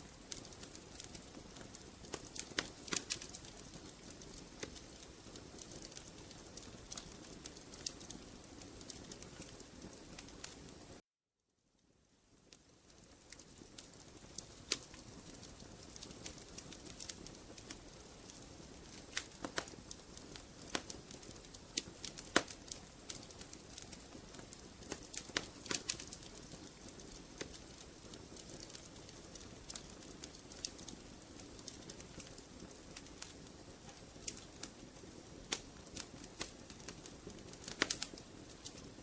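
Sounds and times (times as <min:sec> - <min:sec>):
wood fire crackling: 0:00.0 - 0:11.0, 0:11.8 - 0:39.0.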